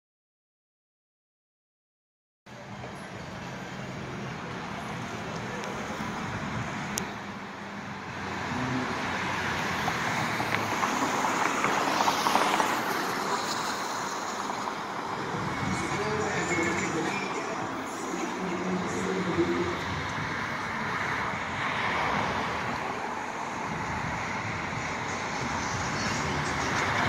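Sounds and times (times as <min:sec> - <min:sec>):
road traffic: 0:02.5 - 0:27.0.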